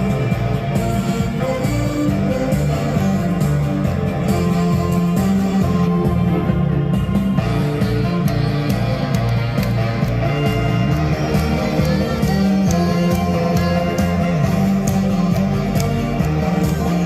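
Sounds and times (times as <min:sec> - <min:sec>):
accompaniment track with steady beat: 0:00.0 - 0:17.0
saxophone duet: 0:00.1 - 0:17.0.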